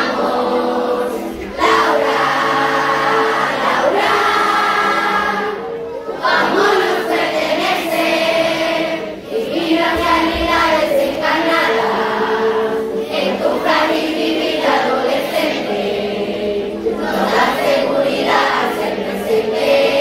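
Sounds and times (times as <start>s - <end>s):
children singing a hymn: 0.0s - 20.0s.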